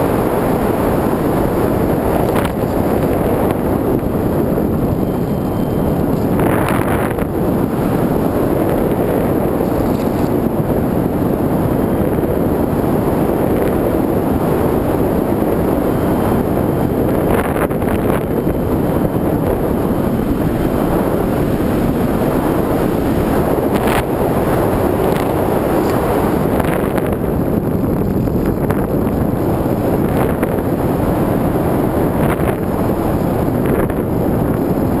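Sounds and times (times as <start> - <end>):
model plane propeller noise: 0.0 - 35.0
wind rushing: 0.0 - 35.0.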